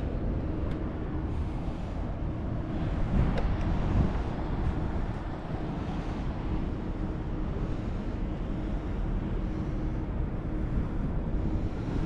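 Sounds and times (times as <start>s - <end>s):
faint low ferry engine hum: 0.0s - 12.0s
harbour ambience: 0.0s - 12.0s
wind rumble on microphone: 0.0s - 12.0s.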